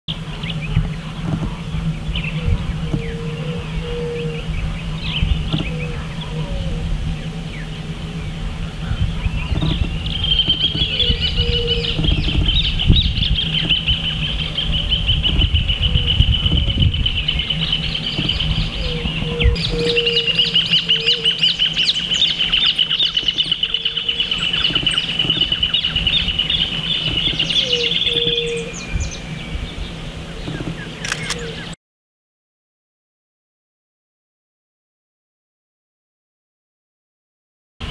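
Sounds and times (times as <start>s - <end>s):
birds chirping in chorus: 0.1s - 31.8s.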